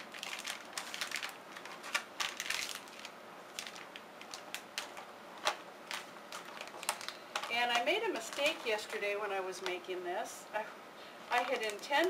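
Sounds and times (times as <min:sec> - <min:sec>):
paper crinkling and rustling: 0:00.0 - 0:09.8, 0:11.3 - 0:12.0.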